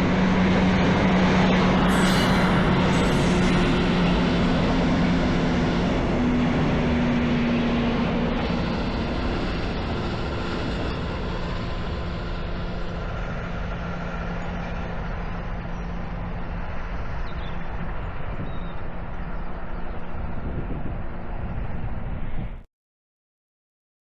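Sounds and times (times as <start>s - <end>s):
diesel engine drone: 0.0s - 20.4s.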